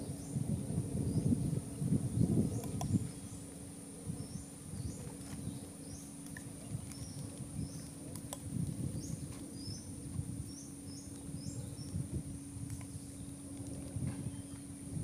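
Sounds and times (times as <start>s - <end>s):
insect chirps: 0.0s - 15.0s
low rumbling noise: 0.0s - 15.0s.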